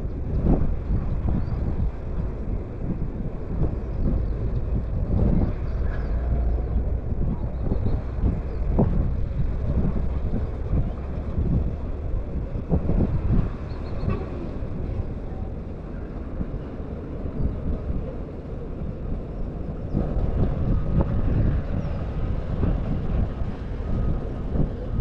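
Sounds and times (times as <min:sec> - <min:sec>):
faint distant motor drone: 0:00.0 - 0:25.0
wind buffeting microphone: 0:00.0 - 0:25.0.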